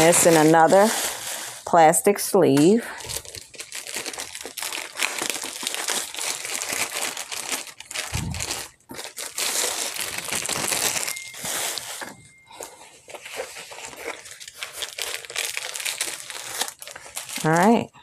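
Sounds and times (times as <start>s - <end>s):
plastic sleeve crinkling: 0.0s - 17.9s.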